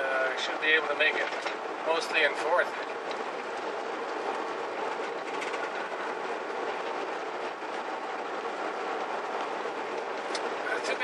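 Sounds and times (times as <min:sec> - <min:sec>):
car driving on dirt road: 0:00.0 - 0:11.0.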